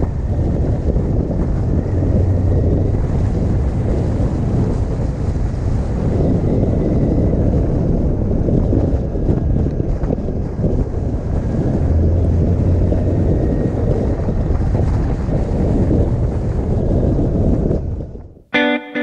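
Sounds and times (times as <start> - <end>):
motorcycle running: 0.0 - 18.0
wind buffeting microphone: 0.0 - 18.4.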